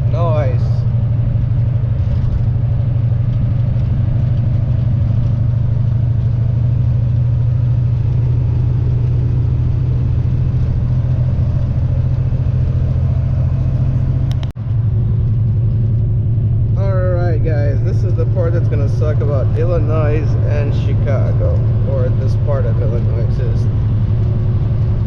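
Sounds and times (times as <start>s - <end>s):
diesel truck engine drone: 0.0s - 25.0s
road noise: 0.0s - 25.0s.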